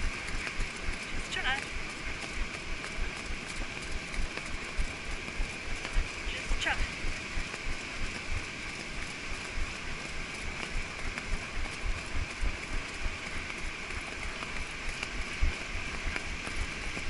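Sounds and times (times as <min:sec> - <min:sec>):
hiss of surf: 0:00.0 - 0:17.0
soft hoofbeats on sand: 0:00.0 - 0:17.0.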